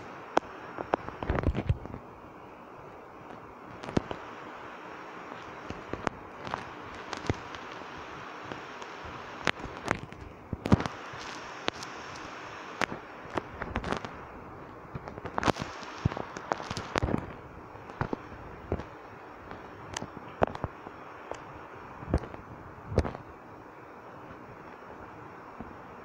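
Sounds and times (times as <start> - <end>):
sharp cracks and pops: 0.0 - 2.1, 3.2 - 4.4, 5.3 - 23.3
steady hiss: 0.0 - 26.0.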